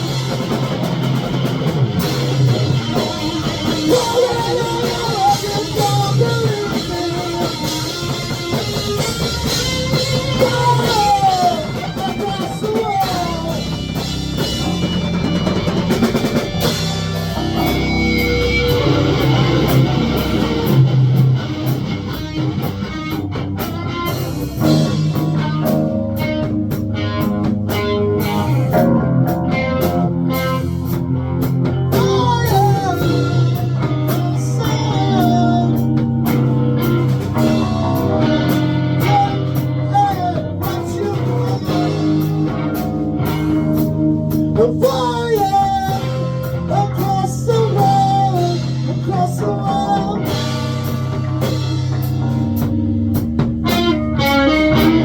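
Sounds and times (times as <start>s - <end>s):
lead guitar bending notes: 0.0s - 44.6s, 47.8s - 55.0s
blues-rock band playing: 0.0s - 55.0s.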